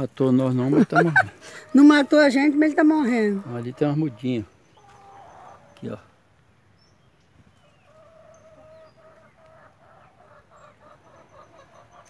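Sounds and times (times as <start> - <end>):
chicken clucking: 0.6 - 6.0, 7.6 - 12.0.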